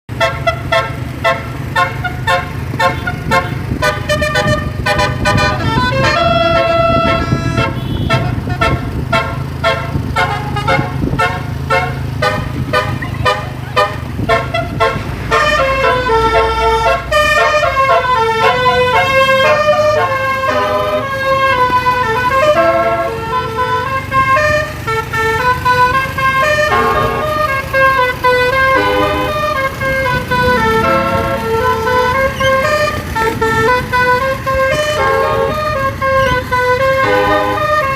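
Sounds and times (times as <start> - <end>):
bus engine running: 0.1 - 37.9
musical bus horn melodies: 0.1 - 37.9.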